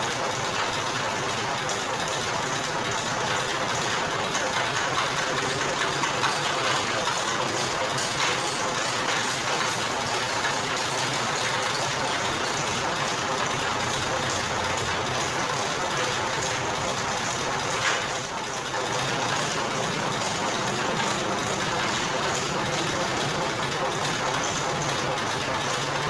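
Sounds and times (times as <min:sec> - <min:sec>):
machine knock: 0:00.0 - 0:26.0
sugarcane crushing machine droning: 0:00.0 - 0:26.0.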